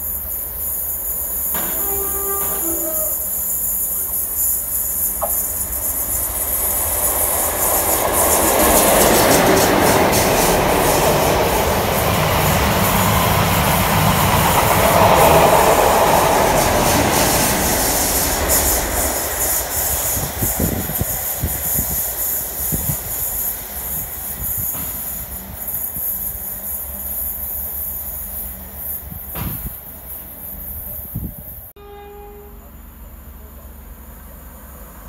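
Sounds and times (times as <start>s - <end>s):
train rolling past at speed: 0.0s - 35.0s.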